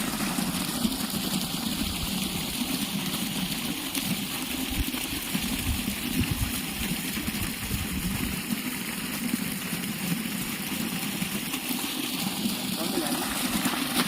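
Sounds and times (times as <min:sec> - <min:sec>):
pumped water rushing: 0:00.0 - 0:14.0.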